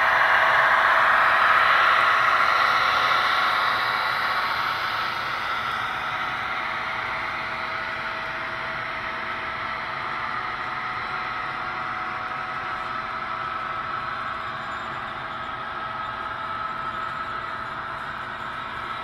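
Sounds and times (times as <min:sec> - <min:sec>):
faint motor hum: 0:00.0 - 0:19.0.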